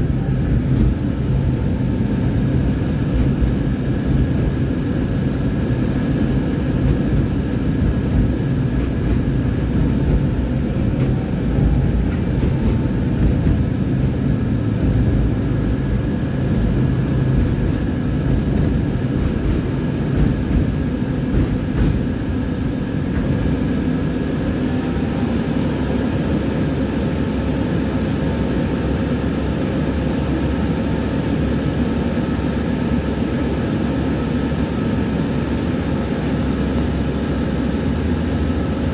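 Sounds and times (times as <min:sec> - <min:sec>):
tram wheels rumbling on rails: 0:00.0 - 0:38.9.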